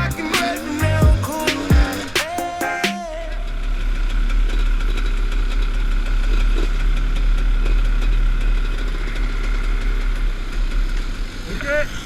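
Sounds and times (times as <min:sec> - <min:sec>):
dirt bike engine running: 0:00.0 - 0:11.5.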